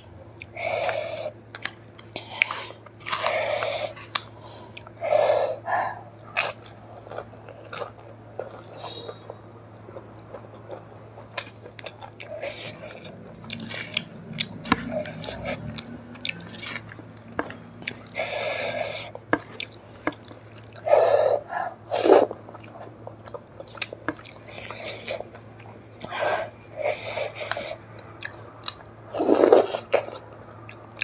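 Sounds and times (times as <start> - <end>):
chewing and mouth clicks: 0.1 - 5.1, 5.7 - 31.0.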